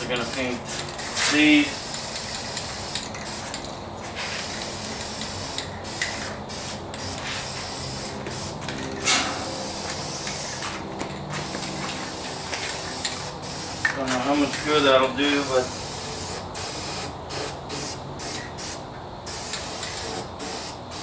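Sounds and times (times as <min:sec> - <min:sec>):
aerosol spray can hissing: 0:00.2 - 0:08.6, 0:09.3 - 0:14.6, 0:15.3 - 0:21.0.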